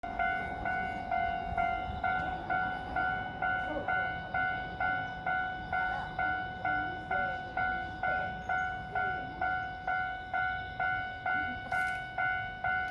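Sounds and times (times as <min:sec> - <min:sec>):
level-crossing electronic bell: 0:00.0 - 0:12.9.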